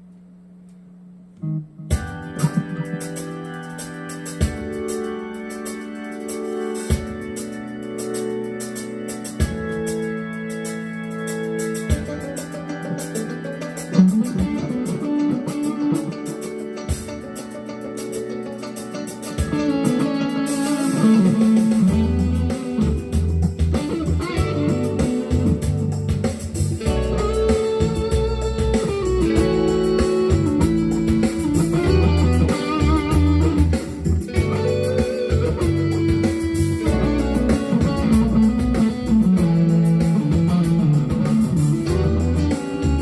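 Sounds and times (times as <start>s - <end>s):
electric guitar lead lines: 0.7s - 43.0s
funk backing track: 1.4s - 43.0s.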